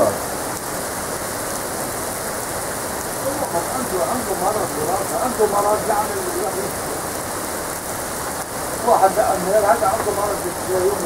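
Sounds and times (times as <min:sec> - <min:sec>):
heavy rain on street and cars: 0:00.0 - 0:11.0.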